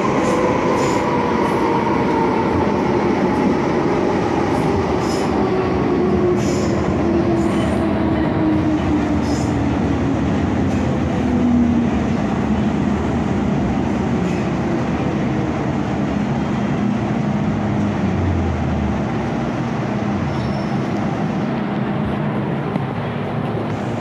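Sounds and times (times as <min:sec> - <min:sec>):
train rail rumble with hum: 0:00.0 - 0:24.0.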